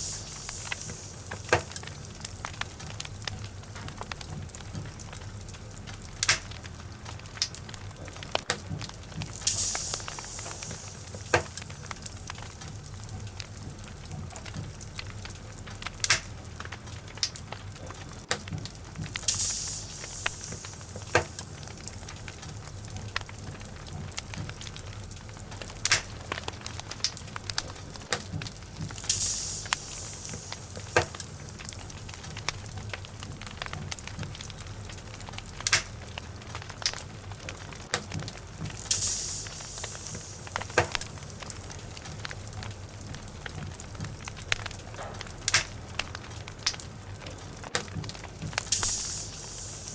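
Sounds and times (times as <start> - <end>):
fire hissing: 0.0 - 49.9
fire low rumble: 0.0 - 49.9
log fire crackling and popping: 0.0 - 49.9.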